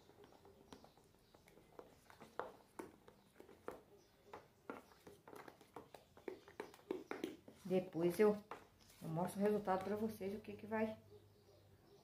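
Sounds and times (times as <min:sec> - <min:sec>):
spoon stirring thick batter: 0:00.0 - 0:10.6.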